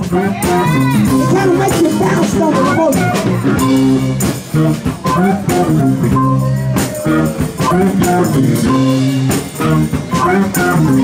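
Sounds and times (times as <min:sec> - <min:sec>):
bass guitar: 0:00.0 - 0:11.0
blues band playing: 0:00.0 - 0:11.0
guitar: 0:00.0 - 0:11.0.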